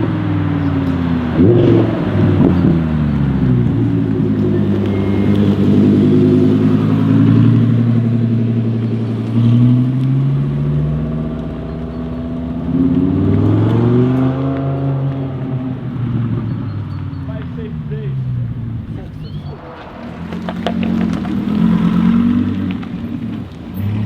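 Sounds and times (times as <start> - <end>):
loud car engine revving: 0.0 - 24.0.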